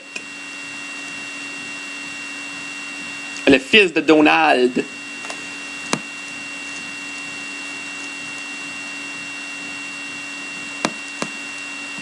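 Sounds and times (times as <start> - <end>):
electrical hum and hiss: 0.0 - 12.0
high whine: 0.0 - 12.0.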